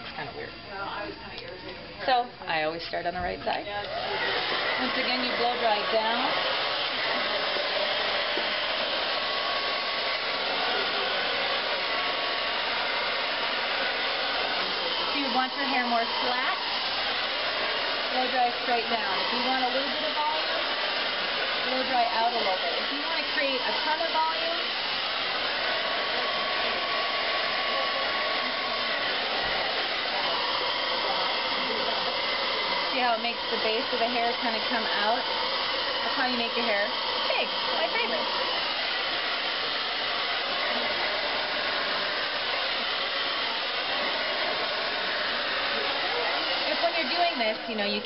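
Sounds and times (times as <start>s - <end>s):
hair dryer blowing: 0.0s - 48.0s.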